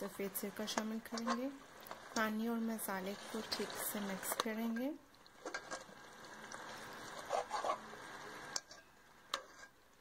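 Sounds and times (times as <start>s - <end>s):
curry simmering: 0.0s - 10.0s
metal spoon stirring in pot: 0.5s - 2.4s, 3.0s - 9.8s.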